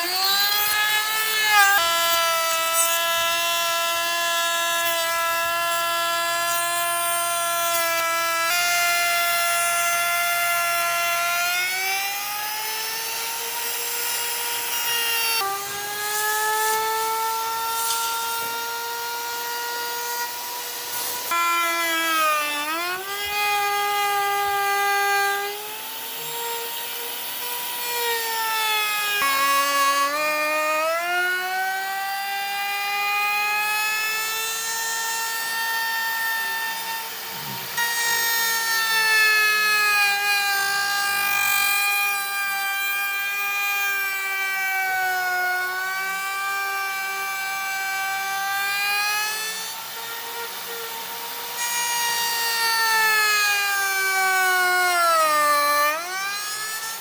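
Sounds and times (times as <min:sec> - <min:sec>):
power tool motor whining: 0:00.0 - 0:57.0.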